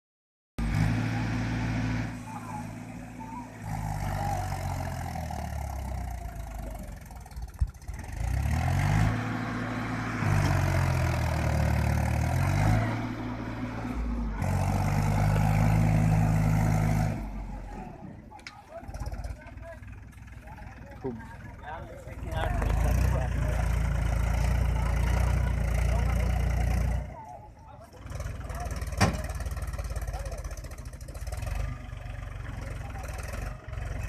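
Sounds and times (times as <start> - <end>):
diesel tractor engine revving: 0.6 - 34.0.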